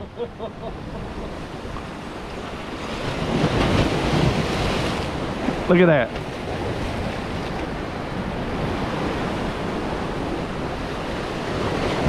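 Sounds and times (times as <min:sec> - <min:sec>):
wind rumbling on microphone: 0:00.0 - 0:12.0
sea waves breaking on rocks: 0:00.9 - 0:12.0.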